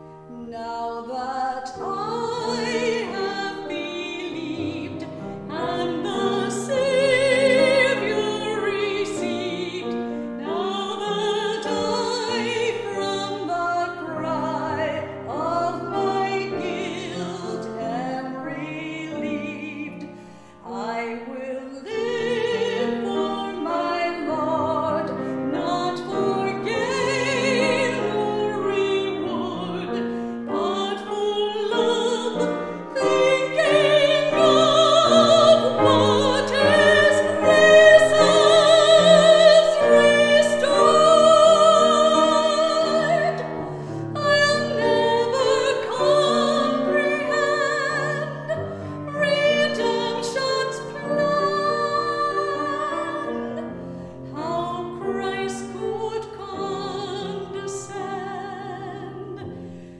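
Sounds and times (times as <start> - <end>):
woman singing with vibrato: 0.4 - 20.0, 20.6 - 53.7, 54.3 - 59.4.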